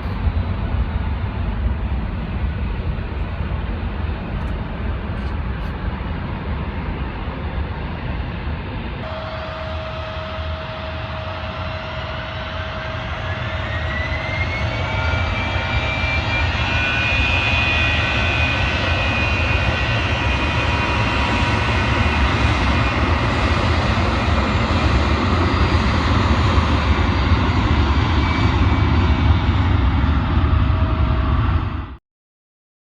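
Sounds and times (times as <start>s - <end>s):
aircraft engines running: 0.0s - 32.0s
rising engine whine: 0.0s - 32.0s.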